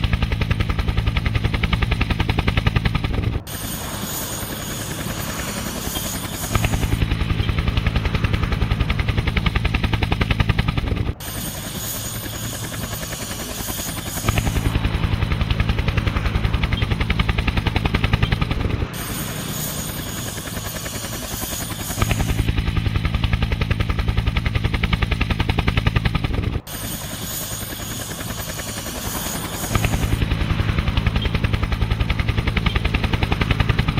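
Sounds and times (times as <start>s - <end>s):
helicopter rotor blades chopping: 0.0s - 33.9s.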